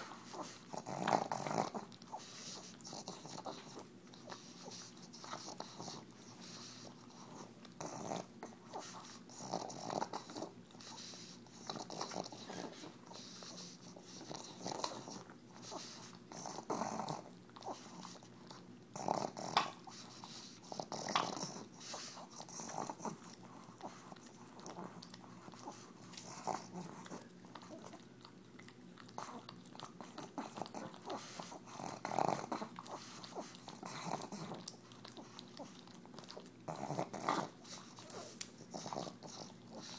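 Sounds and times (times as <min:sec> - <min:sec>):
dog snorting and slurping: 0:00.0 - 0:39.9.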